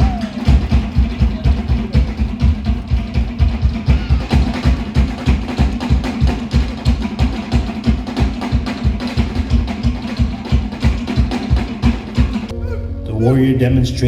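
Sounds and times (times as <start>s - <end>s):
fast steady drumming: 0.0s - 12.5s.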